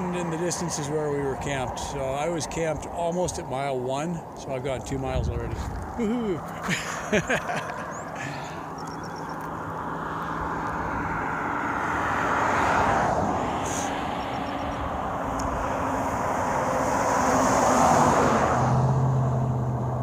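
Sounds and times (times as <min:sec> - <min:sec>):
vehicles passing on highway: 0:00.0 - 0:20.0.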